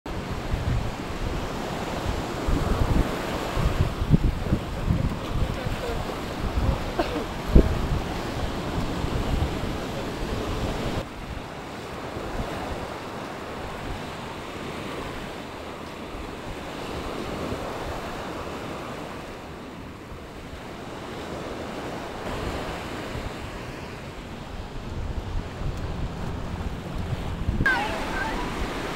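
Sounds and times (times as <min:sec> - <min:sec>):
wind buffeting microphone: 0:00.1 - 0:19.3, 0:20.1 - 0:28.9
small waves washing on sand: 0:00.1 - 0:28.9.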